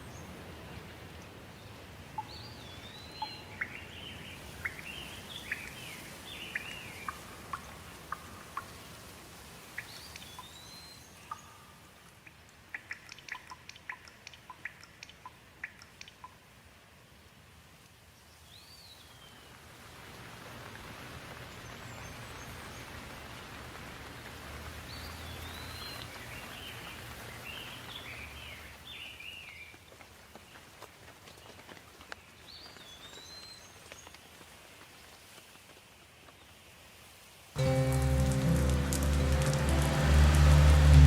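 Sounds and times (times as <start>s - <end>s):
soft rain falling: 0.0s - 41.0s.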